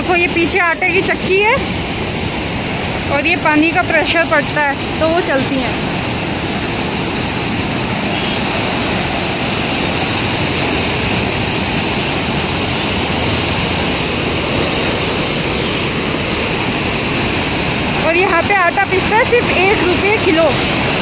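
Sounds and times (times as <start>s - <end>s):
water rushing and churning: 0.0s - 21.0s.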